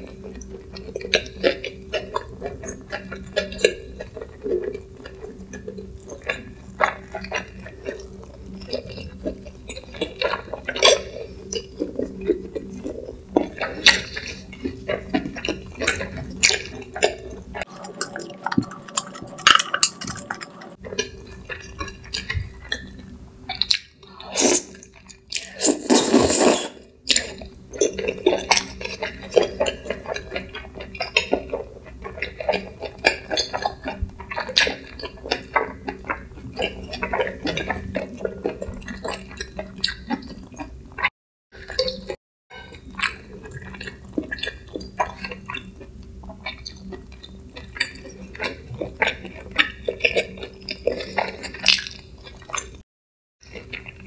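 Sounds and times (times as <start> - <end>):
wet chewing and lip-smacking: 0.0 - 26.5, 27.1 - 52.8.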